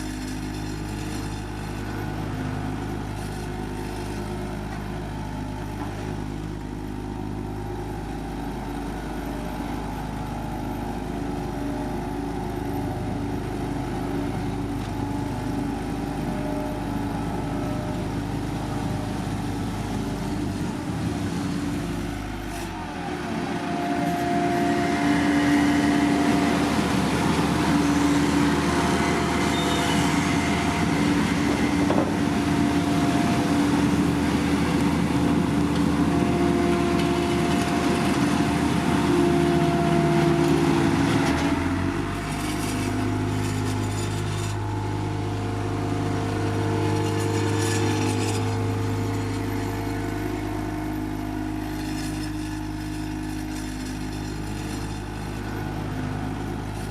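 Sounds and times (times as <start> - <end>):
road paving machinery engines: 0.0 - 56.9.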